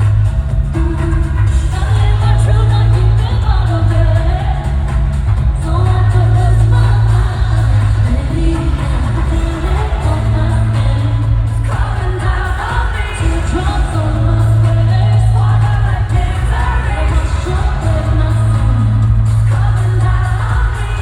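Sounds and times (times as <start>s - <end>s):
live pop music with heavy bass: 0.0s - 21.0s
person singing: 0.0s - 21.0s.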